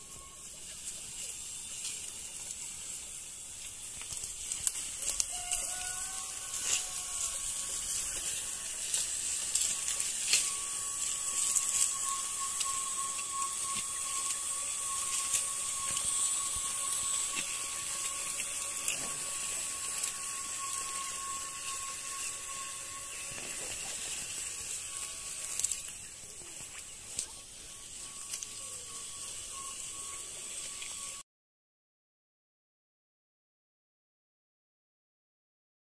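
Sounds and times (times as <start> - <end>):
electric motor whine: 0.0 - 31.2
hiss: 0.0 - 31.2.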